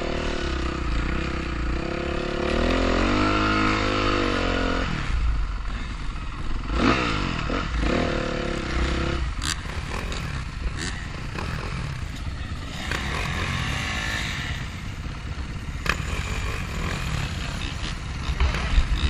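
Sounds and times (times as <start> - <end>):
dirt bike engines at low revs: 0.0 - 19.0.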